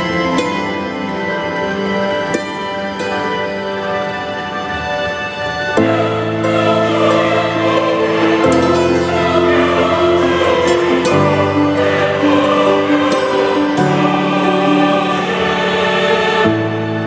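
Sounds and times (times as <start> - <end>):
slow sustained chords: 0.0 - 17.0.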